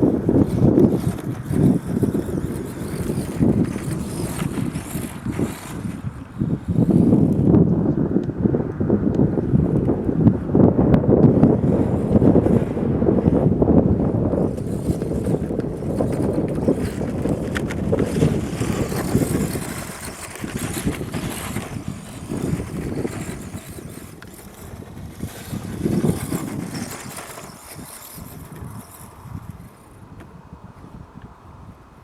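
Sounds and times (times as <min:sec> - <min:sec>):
rc truck rumbling over ground: 0:00.0 - 0:31.1
wind on microphone: 0:00.0 - 0:32.0.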